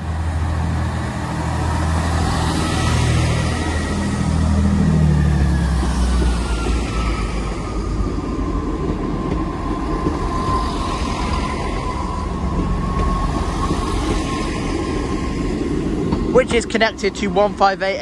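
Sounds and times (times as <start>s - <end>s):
diesel train rumbling past: 0.0s - 18.0s.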